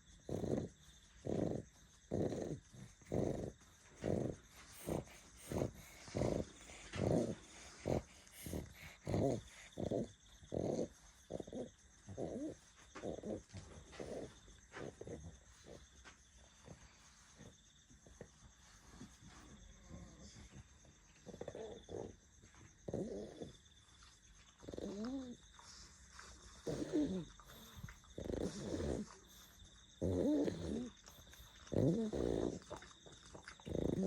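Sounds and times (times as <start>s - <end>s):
dog snoring: 0.0s - 20.4s, 21.2s - 22.2s, 22.8s - 23.6s, 24.2s - 34.0s.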